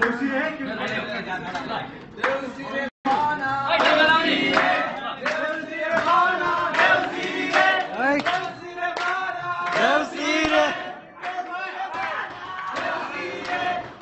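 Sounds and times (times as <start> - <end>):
hand claps: 0.0 - 14.0
young men chanting in unison: 2.2 - 14.0.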